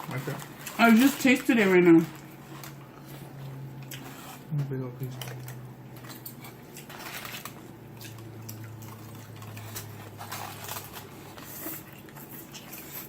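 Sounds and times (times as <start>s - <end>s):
low steady hum: 0.0s - 13.0s
wet chewing: 0.0s - 13.0s.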